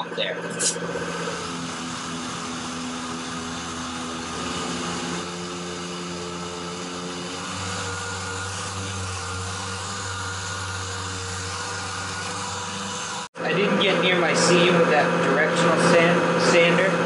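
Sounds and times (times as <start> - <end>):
orbital sander humming: 0.0 - 17.0.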